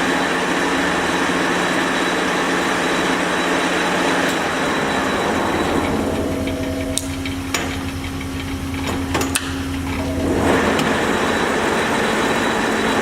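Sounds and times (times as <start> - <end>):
lathe running: 0.0 - 13.0.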